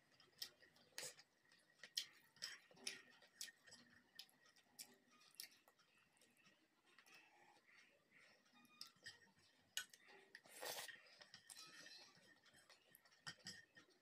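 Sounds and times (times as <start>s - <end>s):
chewing: 0.0s - 14.0s
fingers mixing food on plate: 0.1s - 14.0s.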